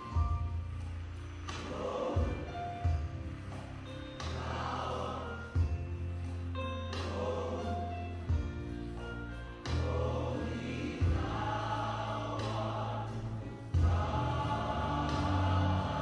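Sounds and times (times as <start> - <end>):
deep bass line: 0.0 - 16.0
gospel choir singing: 1.3 - 8.8, 9.6 - 16.0.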